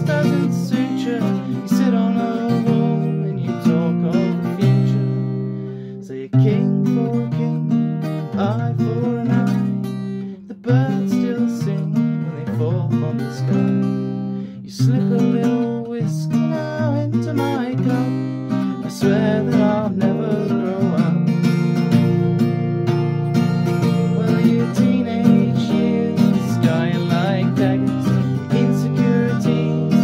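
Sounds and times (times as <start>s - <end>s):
man singing: 0.0s - 22.5s, 23.4s - 30.0s
acoustic guitar strumming: 0.0s - 30.0s.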